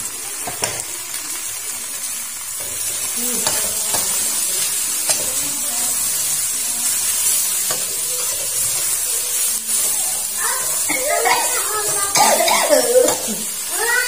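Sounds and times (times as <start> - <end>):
greens sizzling in a wok: 0.0 - 14.0.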